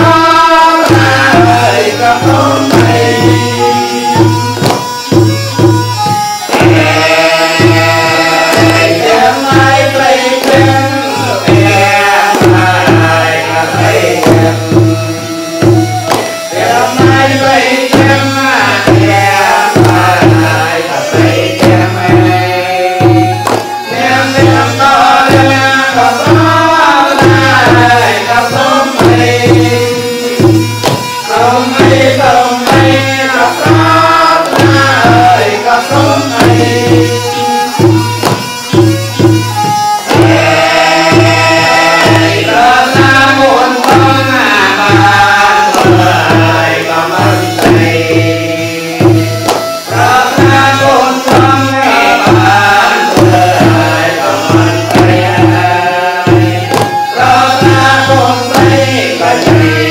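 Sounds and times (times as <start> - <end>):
folk melody: 0.0 - 59.9
hand drum beat: 0.0 - 59.9.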